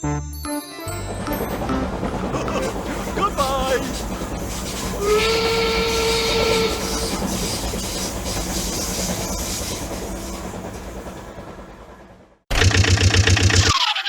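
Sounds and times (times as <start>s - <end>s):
steady rumbling clatter: 1.2s - 13.6s.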